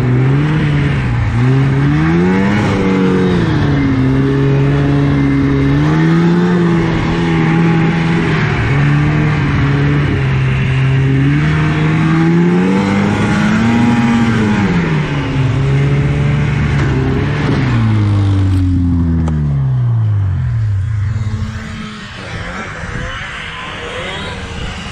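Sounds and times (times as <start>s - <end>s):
snowmobile engine revving: 0.0s - 24.9s
track and wind noise: 0.0s - 24.9s.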